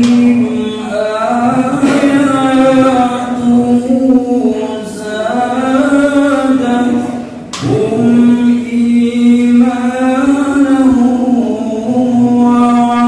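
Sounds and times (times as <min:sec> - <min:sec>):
group singing long held notes: 0:00.0 - 0:13.0.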